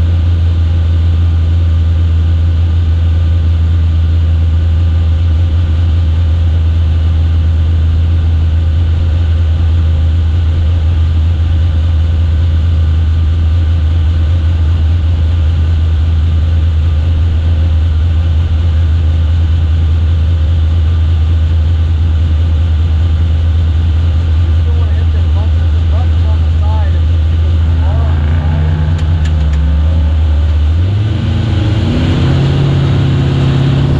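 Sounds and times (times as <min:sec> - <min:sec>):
low mechanical drone: 0:00.0 - 0:33.9.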